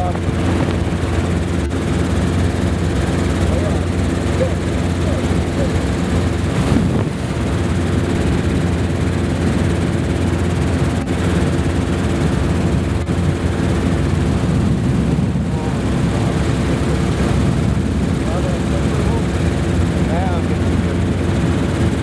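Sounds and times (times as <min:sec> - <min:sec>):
helicopter engine and rotor droning: 0:00.0 - 0:22.0.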